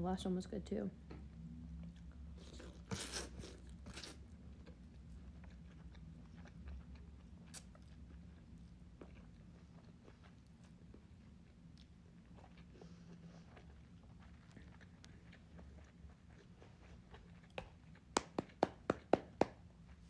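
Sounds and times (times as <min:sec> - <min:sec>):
person chewing noodles: 0:01.8 - 0:18.6.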